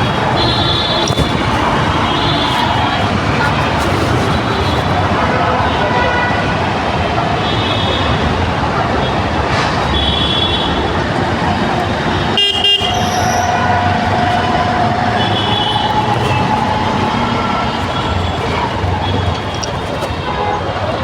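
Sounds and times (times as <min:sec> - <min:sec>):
vehicle horns honking: 0:00.0 - 0:08.3, 0:09.0 - 0:11.1, 0:12.0 - 0:21.0
traffic engines running: 0:00.0 - 0:21.0.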